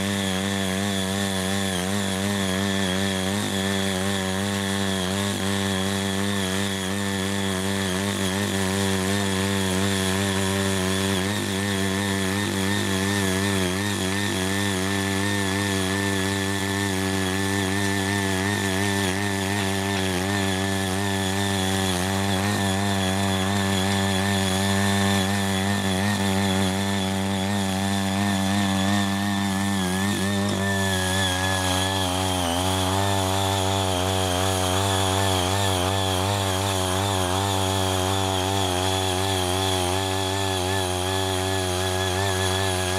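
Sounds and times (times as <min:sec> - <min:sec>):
cultivator engine running: 0:00.0 - 0:42.9
tines churning soil: 0:00.0 - 0:42.9.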